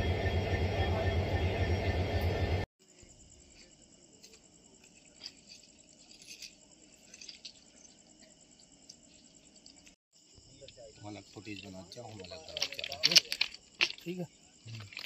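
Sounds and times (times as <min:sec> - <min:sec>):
insects chirping: 0:02.8 - 0:15.0.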